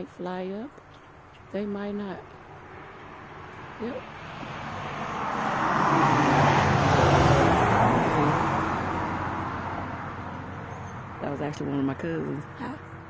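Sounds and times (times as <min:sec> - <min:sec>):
vehicle driving past: 0:02.3 - 0:13.0.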